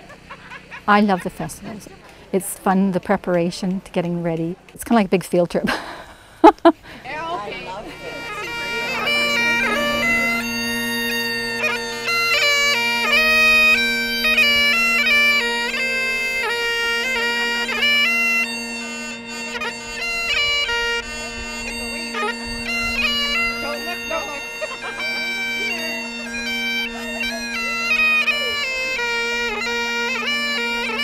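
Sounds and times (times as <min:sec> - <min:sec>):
bagpipes playing a tune: 0:00.0 - 0:31.0.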